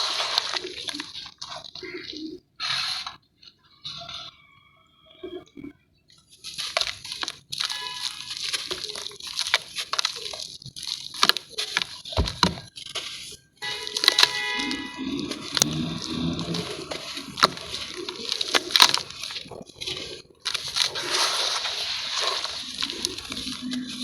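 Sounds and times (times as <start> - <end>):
gritty crunching and crackling: 0.0 - 3.2, 6.2 - 24.0.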